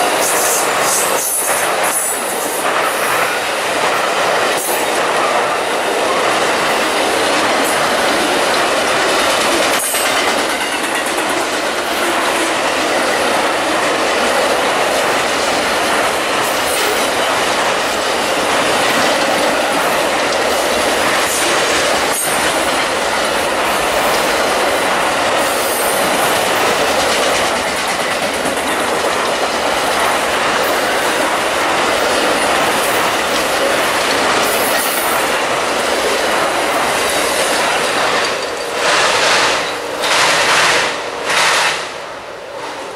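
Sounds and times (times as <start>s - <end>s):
wheels clicking over rail joints: 0.0s - 41.9s
train wheels rushing on rail: 0.0s - 42.9s.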